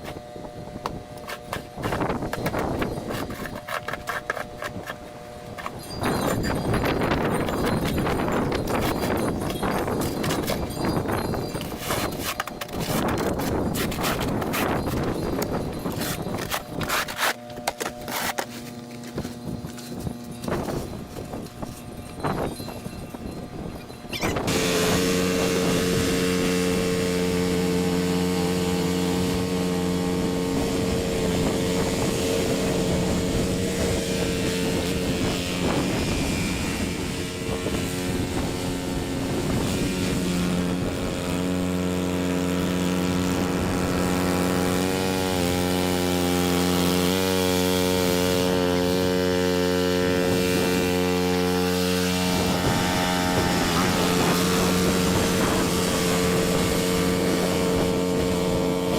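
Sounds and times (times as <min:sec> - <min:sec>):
snow blower engine running: 0:00.0 - 0:58.9.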